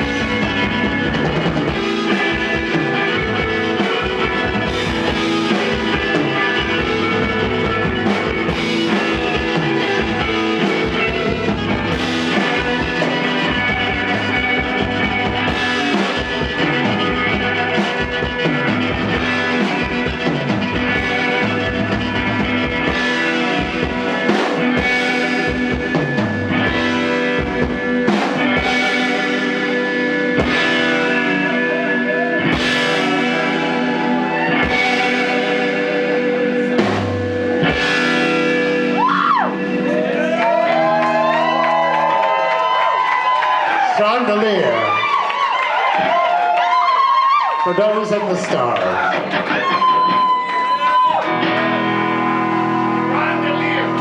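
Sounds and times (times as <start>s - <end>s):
drum kit beat: 0.0s - 43.7s
electric guitar: 0.0s - 54.0s.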